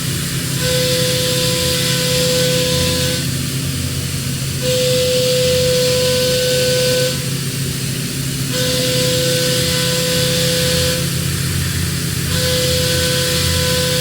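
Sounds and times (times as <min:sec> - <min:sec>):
low machine hum: 0:00.0 - 0:14.0
milling machine whine with hiss: 0:00.0 - 0:14.0.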